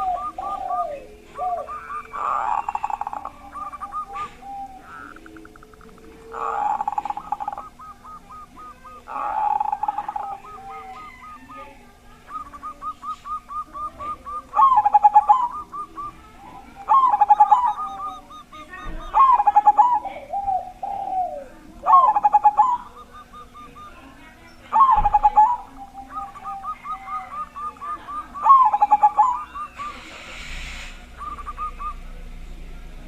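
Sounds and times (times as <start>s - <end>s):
dove cooing: 0.0s - 30.4s, 31.1s - 32.3s.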